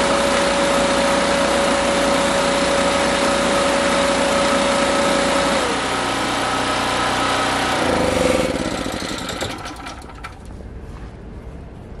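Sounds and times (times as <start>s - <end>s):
generator engine running: 0.0s - 10.6s.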